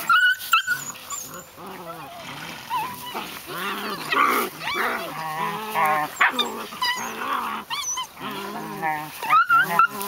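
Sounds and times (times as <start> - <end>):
dogs growling and whining playfully: 0.0 - 10.0.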